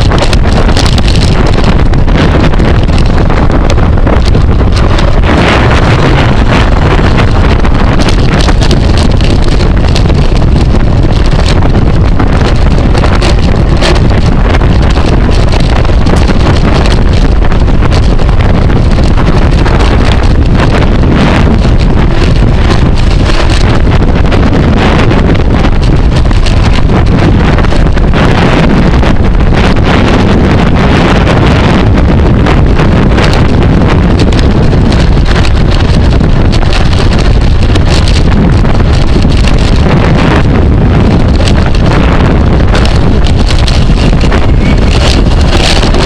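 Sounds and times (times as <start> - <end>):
small clicks and rattles: 0.0 - 30.9, 31.8 - 46.0
wind buffeting microphone: 0.0 - 46.0.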